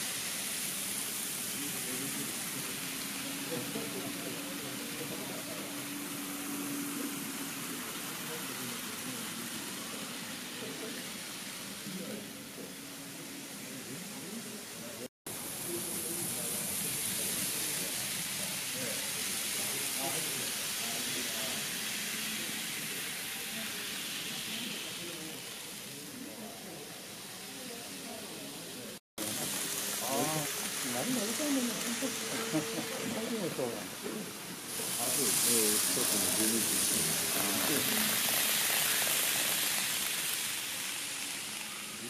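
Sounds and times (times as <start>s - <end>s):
room ambience hiss: 0.0s - 42.0s
faint indistinct voices: 1.2s - 42.0s.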